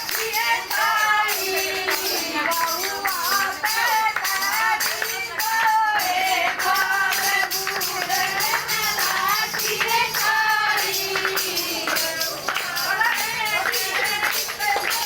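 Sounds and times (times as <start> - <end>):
jingling tambourine: 0.0 - 15.0
person singing devotional song: 0.0 - 15.0.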